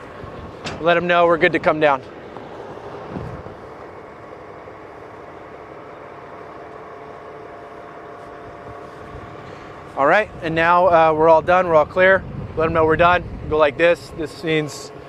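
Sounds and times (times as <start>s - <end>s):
crane engine running: 0.0s - 15.0s
faint steady whine: 0.0s - 15.0s.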